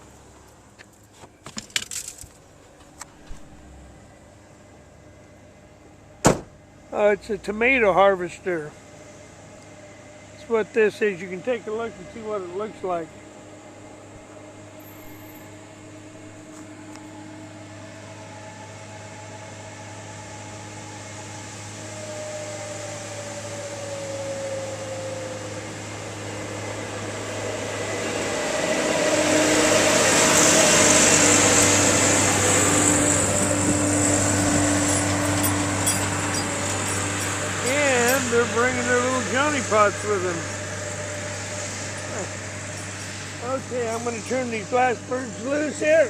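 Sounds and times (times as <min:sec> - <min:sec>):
harvester engine and machinery running: 0:00.0 - 0:46.0.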